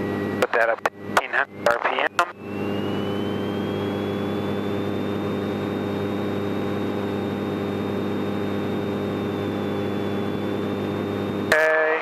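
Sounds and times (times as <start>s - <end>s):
high steady whine: 0.0s - 12.0s.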